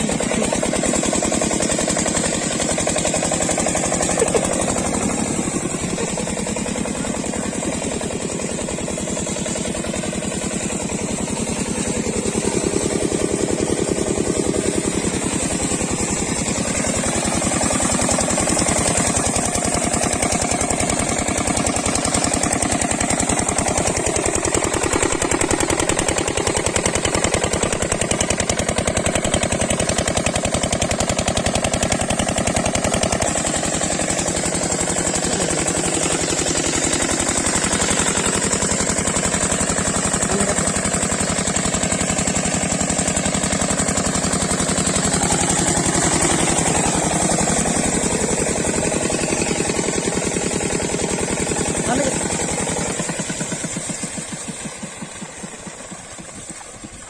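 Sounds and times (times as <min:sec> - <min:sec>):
diesel water pump engine thudding: 0:00.0 - 0:57.0.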